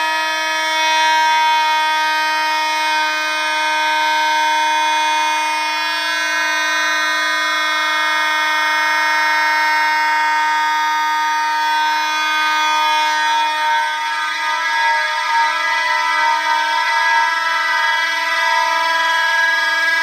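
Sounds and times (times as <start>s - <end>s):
fire alarm horns sounding: 0.0s - 20.0s.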